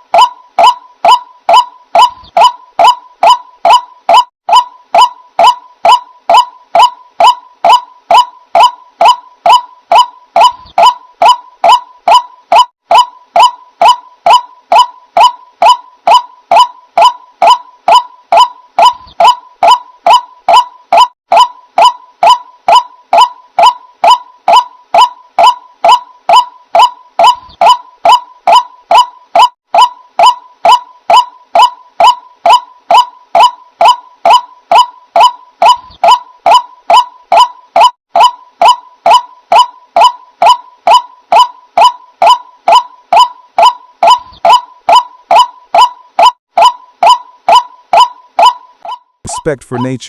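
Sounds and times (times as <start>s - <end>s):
waterhen honking call: 0.1s - 50.0s.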